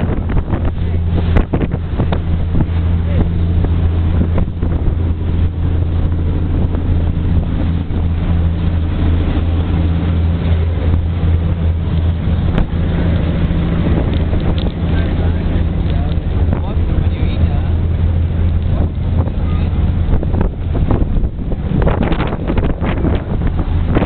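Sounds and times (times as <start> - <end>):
churning water wake: 0.0 - 24.0
ferry engines droning: 0.0 - 24.0
wind buffeting microphone: 0.0 - 24.0.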